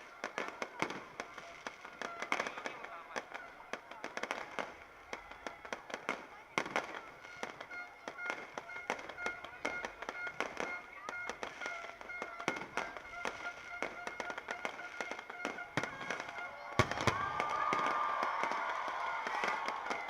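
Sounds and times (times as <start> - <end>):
fireworks and firecrackers banging: 0.0 - 20.0.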